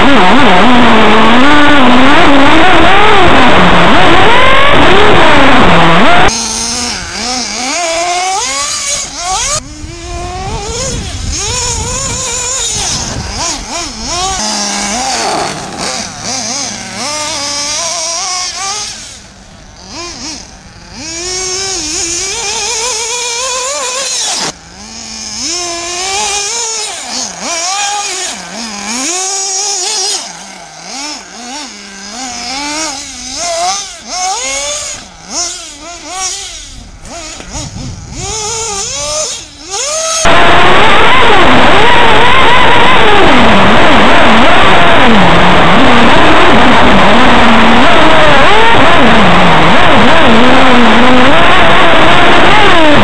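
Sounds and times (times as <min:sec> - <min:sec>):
rc nitro engine whining: 0:00.0 - 0:53.0.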